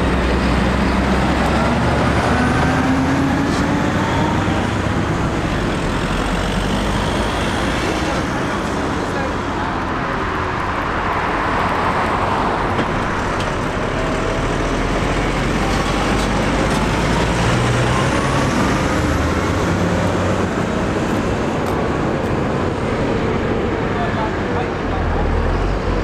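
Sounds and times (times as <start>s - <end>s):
rising engine whine: 0.0s - 26.0s
tractor diesel engines passing: 0.0s - 26.0s.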